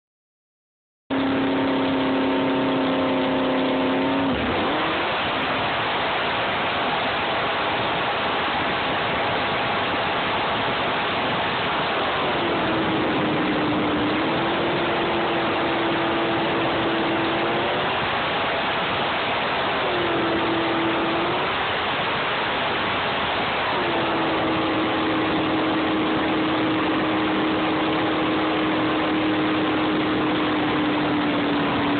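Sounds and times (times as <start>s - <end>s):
jet boat engine running hard: 1.1s - 31.9s
rush of wind and water: 1.1s - 31.9s.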